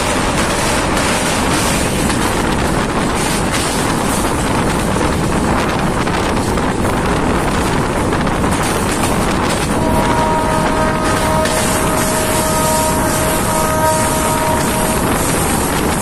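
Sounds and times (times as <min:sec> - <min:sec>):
moving passenger train: 0:00.0 - 0:16.0
wind rushing over microphone: 0:00.0 - 0:16.0.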